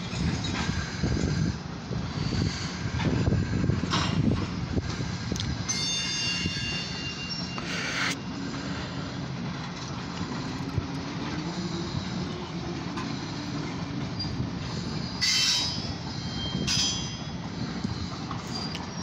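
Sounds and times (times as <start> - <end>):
train wheel squeals: 0.0 - 1.5, 2.2 - 9.0, 11.4 - 19.0
freight train rolling past: 0.0 - 19.0.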